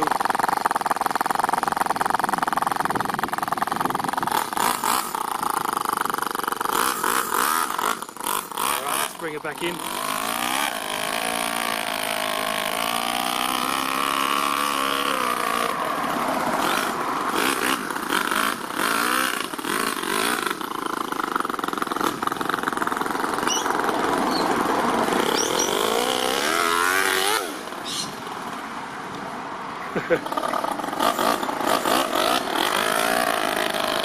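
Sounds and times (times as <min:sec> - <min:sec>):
model nitro engine revving: 0:00.0 - 0:28.1, 0:30.0 - 0:34.0.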